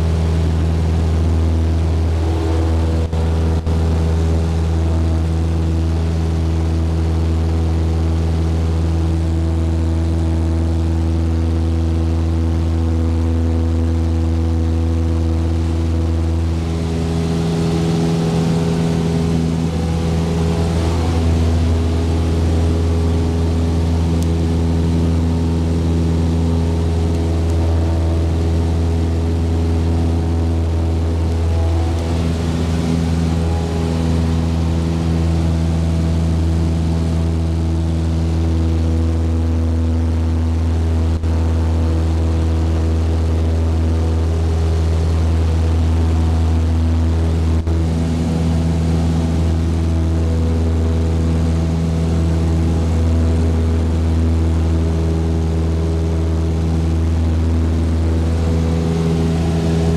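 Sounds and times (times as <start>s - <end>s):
airplane engine droning in cabin: 0.0s - 59.9s.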